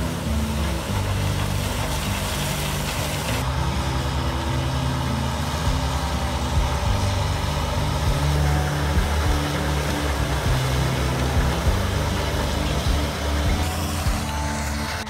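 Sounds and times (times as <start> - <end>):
background music: 0.0 - 15.0
heavy machinery engine rumble: 0.0 - 15.0.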